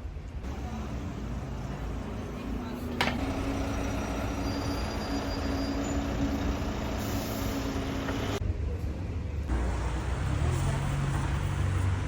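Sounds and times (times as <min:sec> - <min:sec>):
vehicle running: 0:00.4 - 0:08.4, 0:09.5 - 0:12.0.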